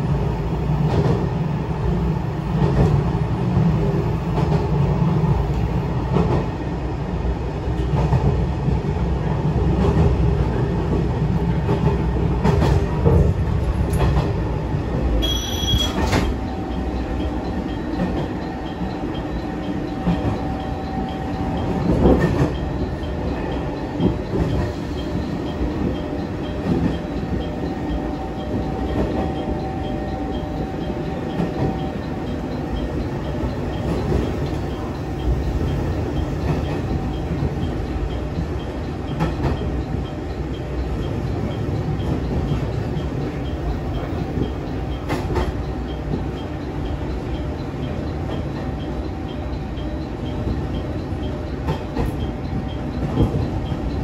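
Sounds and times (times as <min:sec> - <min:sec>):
railcar engine and wheels rumble: 0:00.0 - 0:54.0.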